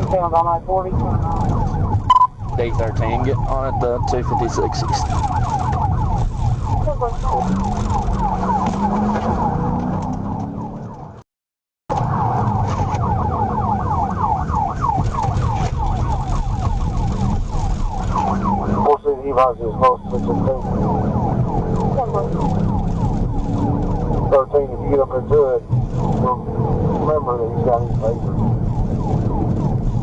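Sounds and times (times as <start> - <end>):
engine and road noise: 0.0 - 11.2, 11.9 - 30.0
police siren yelping: 0.4 - 11.2, 11.9 - 30.0.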